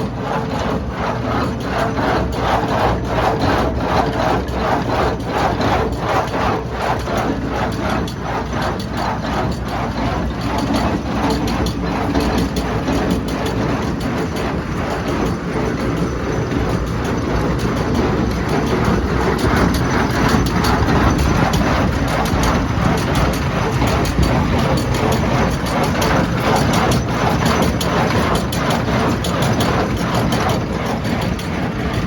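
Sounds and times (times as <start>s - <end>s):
baler mechanical clatter: 0.0s - 32.0s
tractor engine rumble: 0.0s - 32.0s.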